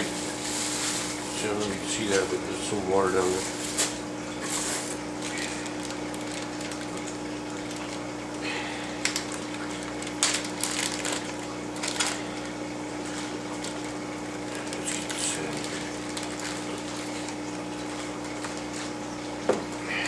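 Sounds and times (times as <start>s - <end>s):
plastic bags crinkling: 0.0s - 8.4s, 9.0s - 13.9s, 14.5s - 19.0s
steady low hum: 0.0s - 20.0s.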